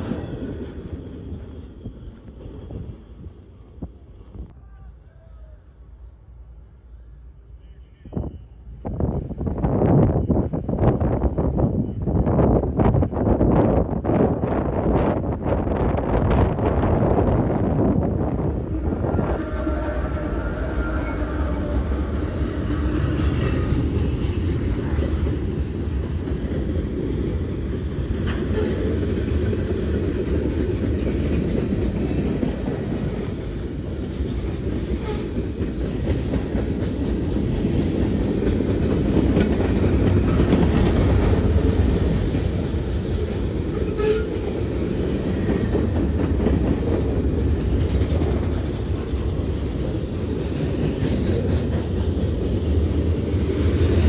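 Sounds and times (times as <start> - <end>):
diesel locomotive engine: 0.0 - 54.0
freight train wheels rumbling: 0.0 - 54.0.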